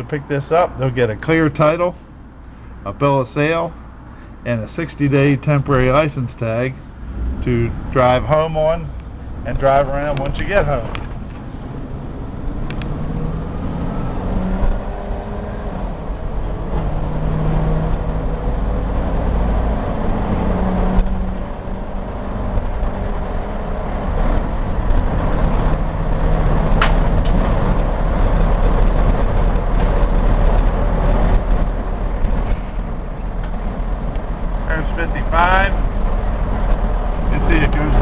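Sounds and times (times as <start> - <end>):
tyre road noise: 0.0 - 38.0
truck engine accelerating: 4.7 - 38.0.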